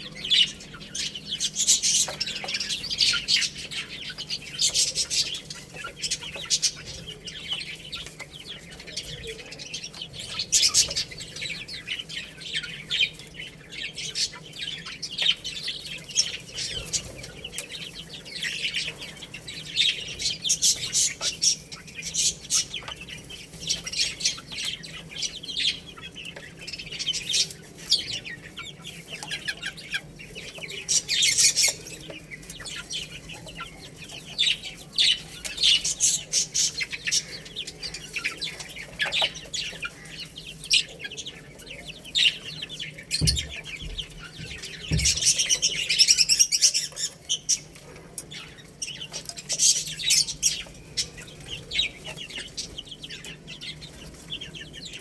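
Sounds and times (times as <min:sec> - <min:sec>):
baby chicks chirping: 0:00.0 - 0:55.0.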